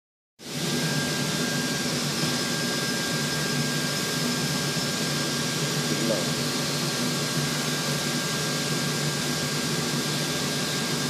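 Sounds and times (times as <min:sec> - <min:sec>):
high-pitched machine whines: 0:00.4 - 0:11.0
factory machinery low hum: 0:00.9 - 0:11.0.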